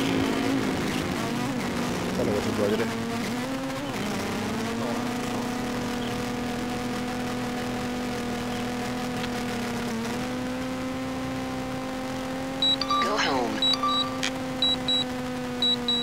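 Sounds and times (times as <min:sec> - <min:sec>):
motor running steadily: 0:00.0 - 0:16.0.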